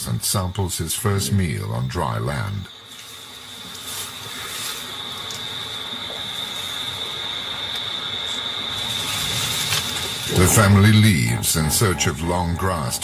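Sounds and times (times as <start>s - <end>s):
even hiss: 0.0s - 13.0s
high-pitched whine: 0.0s - 13.0s.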